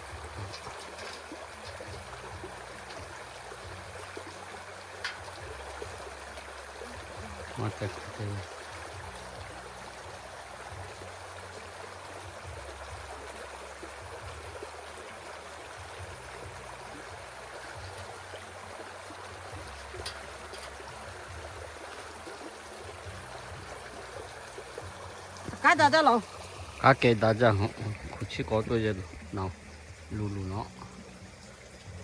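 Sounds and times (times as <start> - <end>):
creek water running: 0.0 - 32.0.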